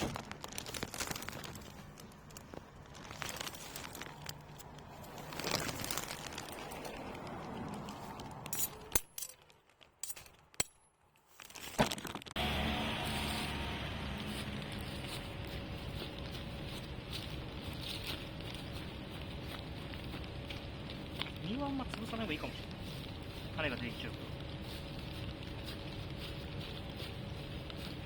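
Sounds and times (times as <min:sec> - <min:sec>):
thistle burning crackle: 0:00.0 - 0:28.0.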